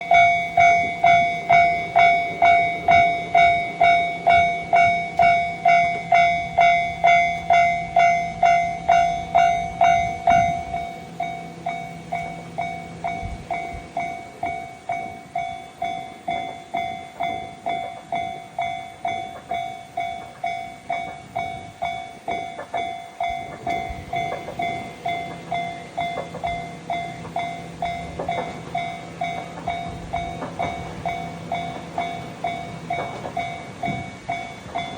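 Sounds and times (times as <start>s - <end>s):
level-crossing warning bell: 0.0s - 34.9s.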